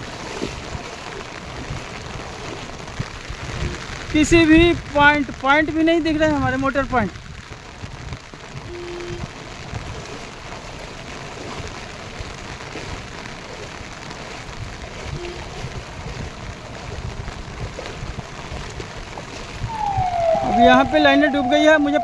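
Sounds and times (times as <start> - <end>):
rain falling on water: 0.0 - 22.0.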